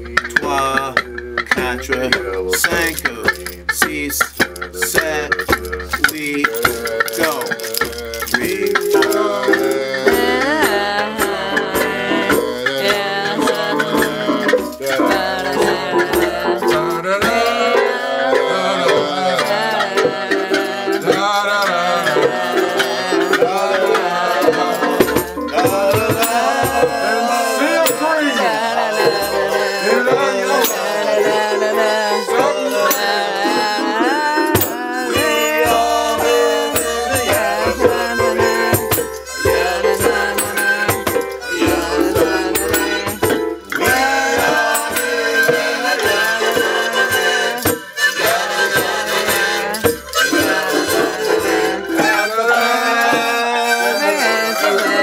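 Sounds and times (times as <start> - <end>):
rattling hand percussion: 0.0 - 55.0
violin bowing sliding lines: 6.7 - 55.0.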